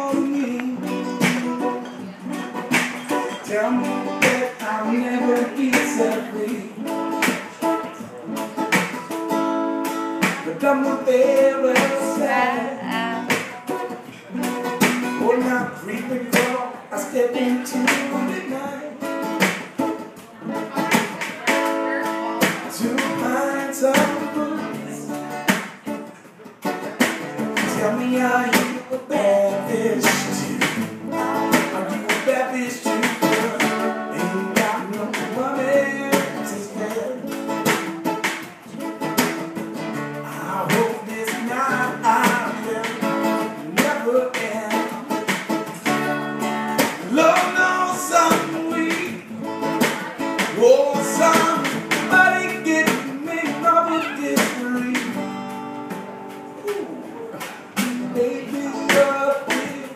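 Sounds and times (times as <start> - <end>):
man singing: 0.0 - 9.1, 10.0 - 25.6, 26.6 - 38.9, 39.9 - 56.0, 56.6 - 59.9
acoustic guitar strumming: 0.0 - 59.9.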